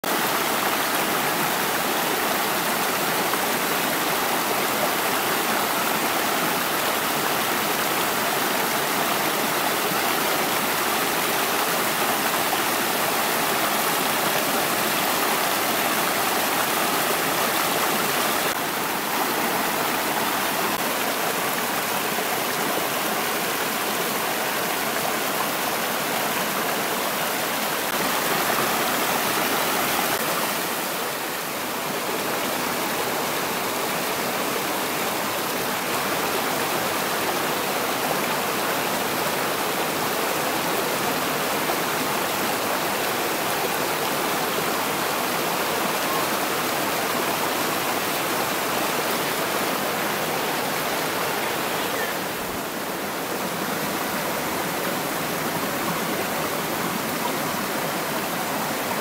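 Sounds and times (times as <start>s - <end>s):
stream babbling over stones: 0.1s - 59.0s.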